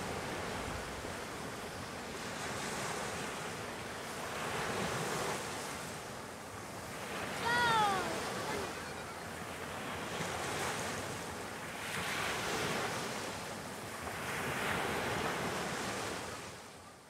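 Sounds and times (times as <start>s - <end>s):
small waves breaking on a beach: 0.0s - 17.0s.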